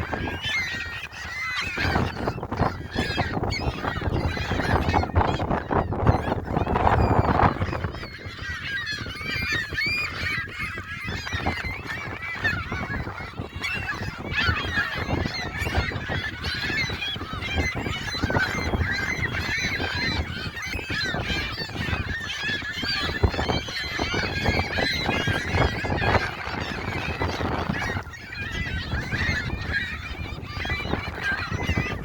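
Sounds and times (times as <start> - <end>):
gulls calling: 0.0 - 32.0.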